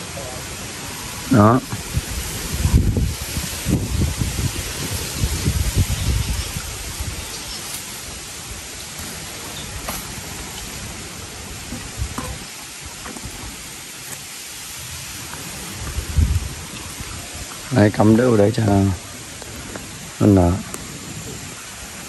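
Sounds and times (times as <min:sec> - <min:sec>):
outdoor background hiss: 0:00.0 - 0:22.0
wind buffeting microphone: 0:00.0 - 0:22.0.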